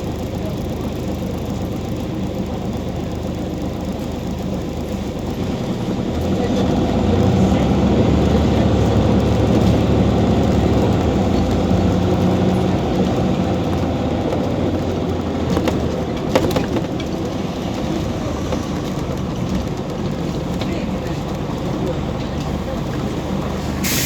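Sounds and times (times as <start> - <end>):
bus engine humming: 0.0 - 24.0.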